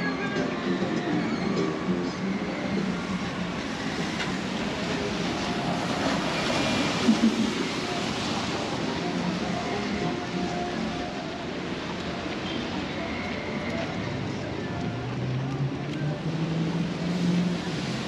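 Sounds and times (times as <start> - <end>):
steady rain on street: 0.5 - 18.0
tyres hissing on wet pavement: 1.8 - 18.0.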